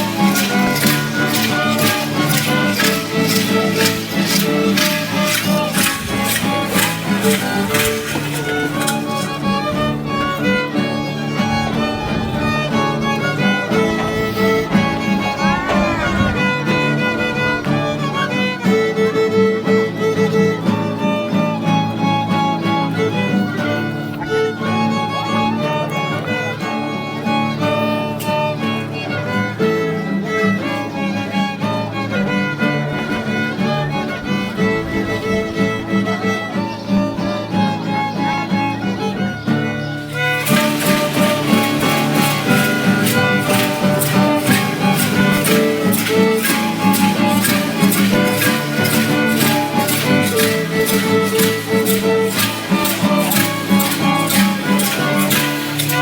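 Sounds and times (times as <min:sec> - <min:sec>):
guitar accompaniment: 0:00.0 - 0:56.0
violin dance tune: 0:00.0 - 0:56.0.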